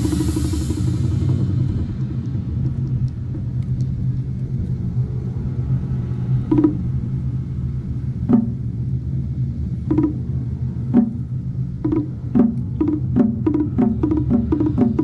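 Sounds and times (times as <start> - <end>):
large drums rumbling: 0.0 - 15.0.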